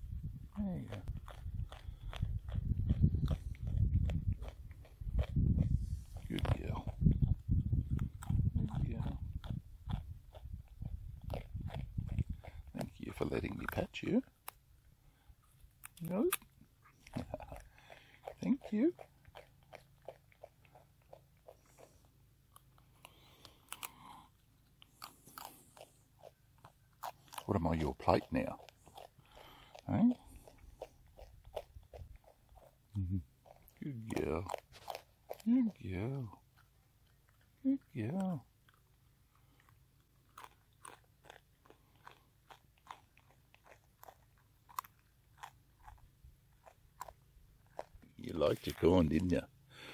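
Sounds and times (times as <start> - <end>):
wallaby chewing corn: 0.0 - 49.9.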